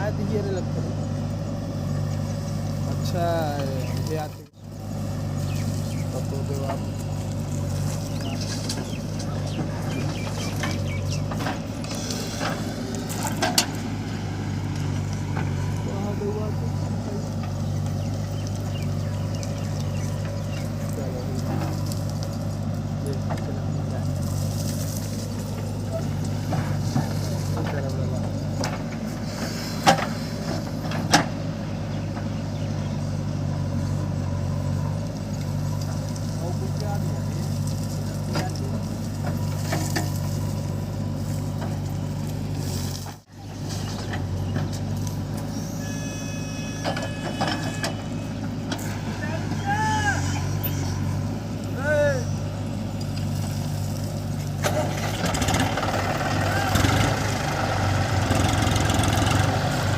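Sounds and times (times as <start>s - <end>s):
birds chirping: 0.0s - 54.6s
diesel engine idling: 0.0s - 59.9s.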